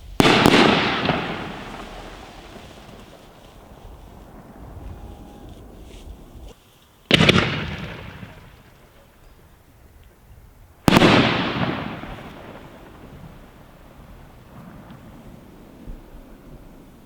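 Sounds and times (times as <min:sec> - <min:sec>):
firework bangs: 0:00.0 - 0:09.2, 0:10.8 - 0:17.0.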